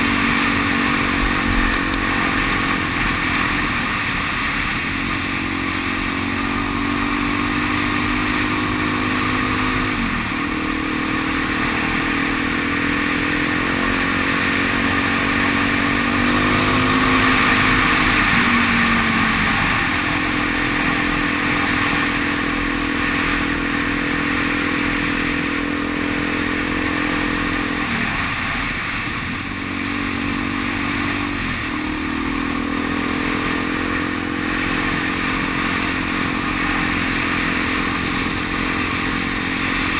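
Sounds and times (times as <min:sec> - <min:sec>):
motorcycle engine revving through gears: 0:00.0 - 0:39.9
wind and road noise: 0:00.0 - 0:39.9.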